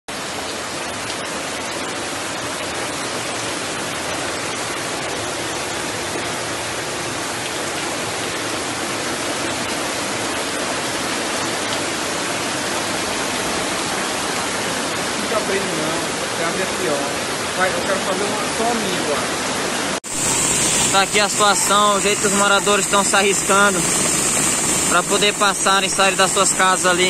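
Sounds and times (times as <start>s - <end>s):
floodwater rushing: 0.1s - 27.0s
heavy rain: 0.1s - 27.0s.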